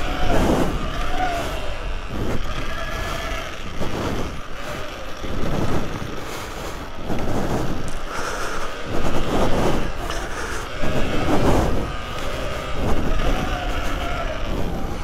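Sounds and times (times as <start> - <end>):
bike rumble over dirt: 0.0 - 15.0
electric motor whine: 0.0 - 15.0
wind buffeting microphone: 0.0 - 15.0.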